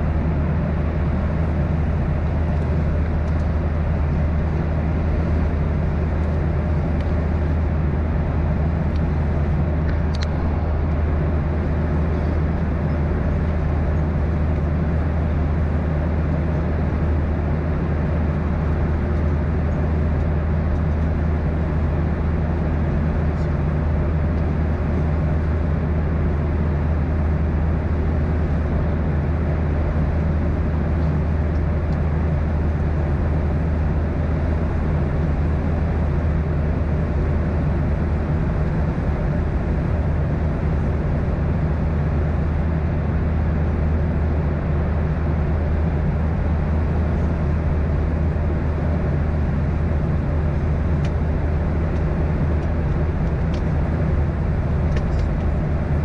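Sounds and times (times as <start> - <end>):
airplane cabin hum: 0.0 - 56.0.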